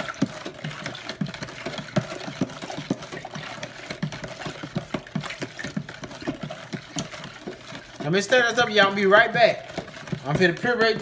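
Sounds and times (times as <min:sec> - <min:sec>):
liquid swishing: 0:00.0 - 0:11.0
utensil knocking plastic pitcher: 0:00.0 - 0:11.0.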